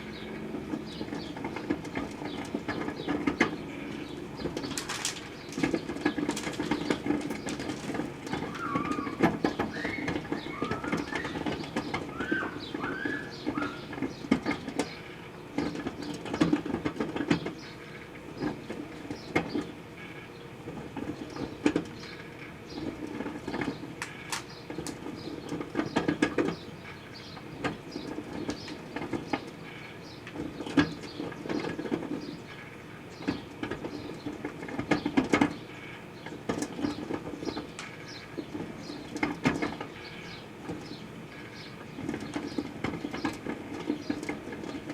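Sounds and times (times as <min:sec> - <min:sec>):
clicks and crackles: 0:00.0 - 0:44.9
microwave oven humming: 0:00.0 - 0:44.9.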